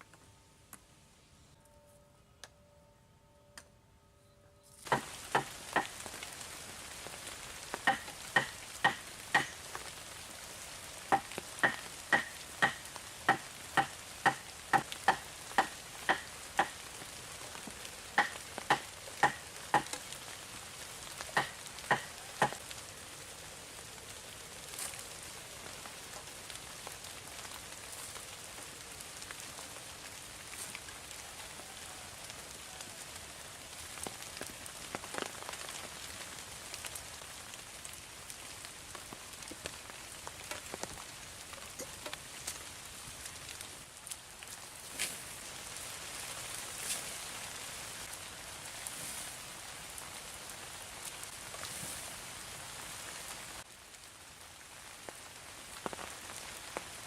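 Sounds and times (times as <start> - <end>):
steady hiss: 4.7 - 57.0.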